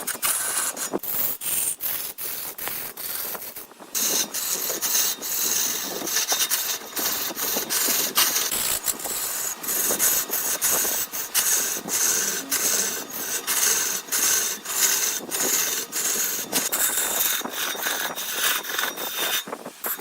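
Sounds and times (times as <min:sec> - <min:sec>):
lathe tool scraping wood: 0:00.0 - 0:20.0.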